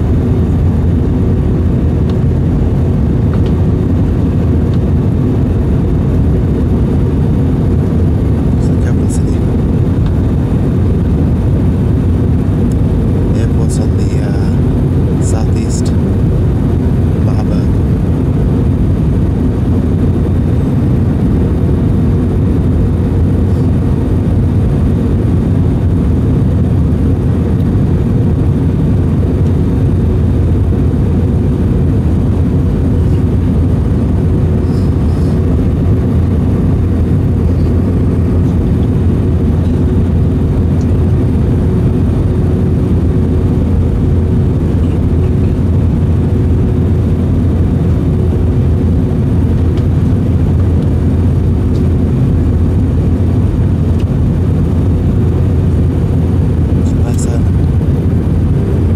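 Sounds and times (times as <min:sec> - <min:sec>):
airplane cabin roar: 0:00.0 - 0:58.9
faint steady hum: 0:00.0 - 0:58.9.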